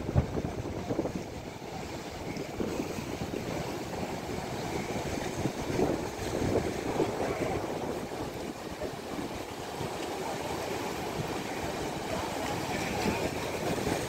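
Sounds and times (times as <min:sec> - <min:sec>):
small waves breaking: 0:00.0 - 0:14.0
wind gusting on microphone: 0:00.0 - 0:14.0.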